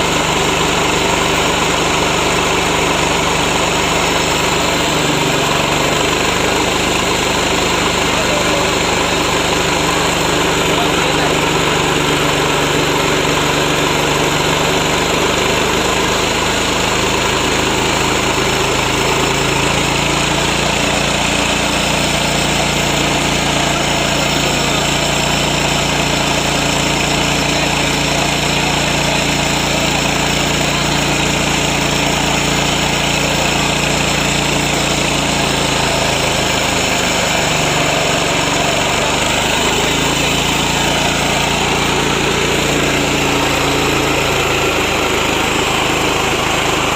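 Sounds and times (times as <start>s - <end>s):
small petrol engine running: 0.0s - 46.9s.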